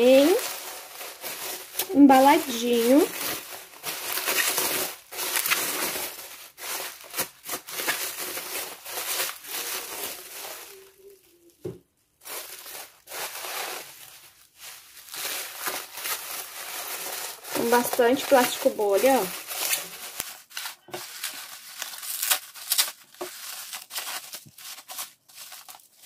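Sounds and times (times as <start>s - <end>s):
bubble wrap crinkling: 0.0s - 26.0s.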